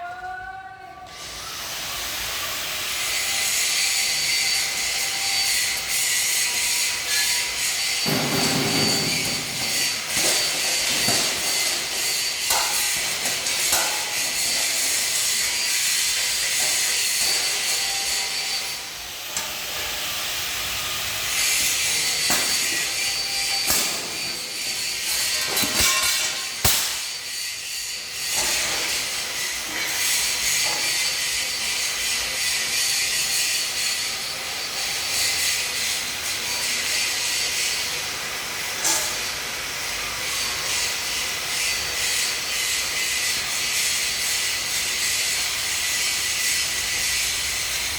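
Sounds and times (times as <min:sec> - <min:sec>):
angle grinder cutting steel: 0:01.1 - 0:47.9.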